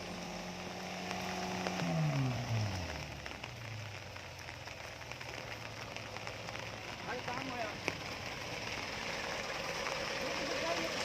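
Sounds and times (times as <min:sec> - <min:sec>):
car engine running: 0:00.0 - 0:11.0
crackling hiss: 0:00.0 - 0:11.0.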